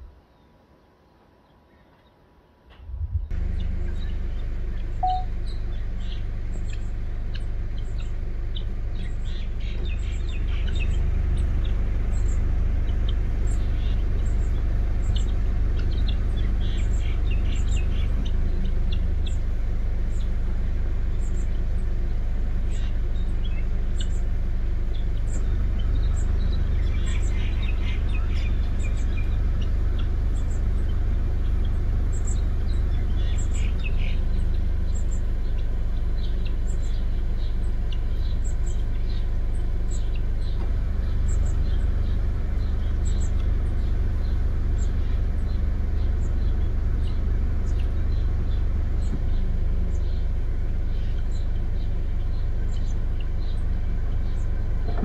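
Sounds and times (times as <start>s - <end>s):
birds chirping: 0.0s - 55.0s
car engine idling: 3.3s - 55.0s.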